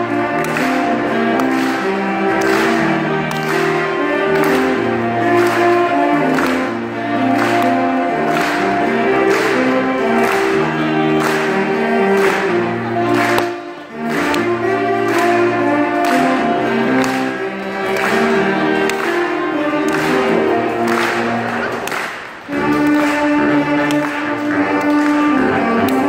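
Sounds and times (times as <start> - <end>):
saxophone quartet playing chords: 0.0 - 26.0.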